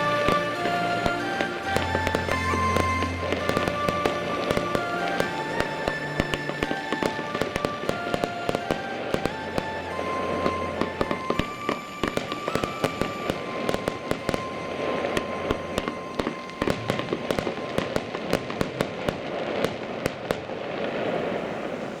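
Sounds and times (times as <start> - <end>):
fireworks bangs and crackles: 0.0 - 22.0
thin steady whistling tone: 0.0 - 22.0.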